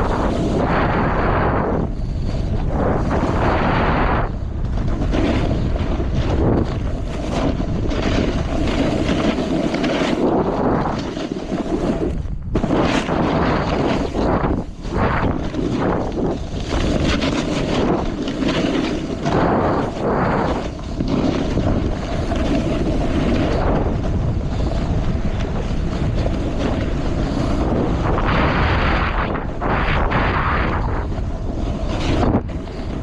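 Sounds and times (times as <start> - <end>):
snowboard edges scraping snow: 0.0 - 33.0
wind buffeting microphone: 0.0 - 33.0.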